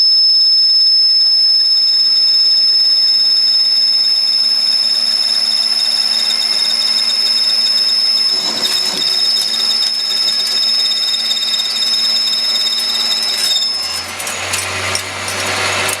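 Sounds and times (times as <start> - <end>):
metal lathe whining: 1.8 - 16.0.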